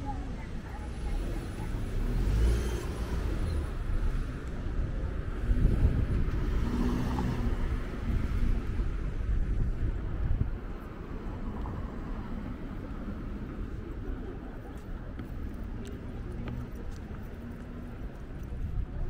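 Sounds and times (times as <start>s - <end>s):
low rumble of engines and tyres: 0.0s - 19.0s.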